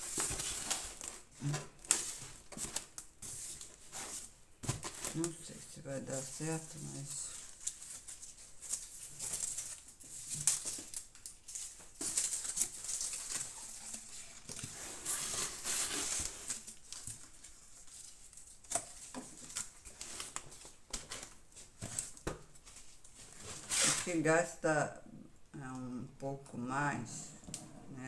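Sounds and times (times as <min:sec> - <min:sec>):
paper crumpling and crinkling: 0:00.0 - 0:24.1.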